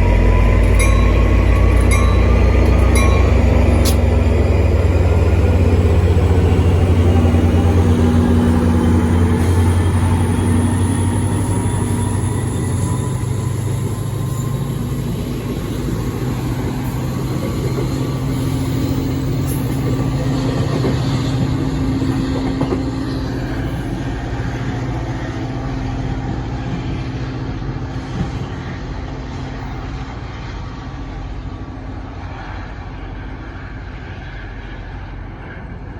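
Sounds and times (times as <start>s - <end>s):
diesel train engine drone: 0.0s - 35.9s.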